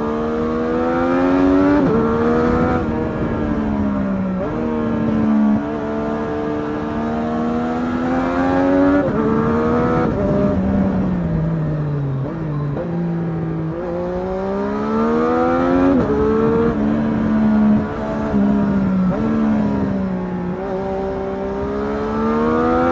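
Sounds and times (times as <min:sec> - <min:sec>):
motorcycle engine accelerating: 0:00.0 - 0:22.9.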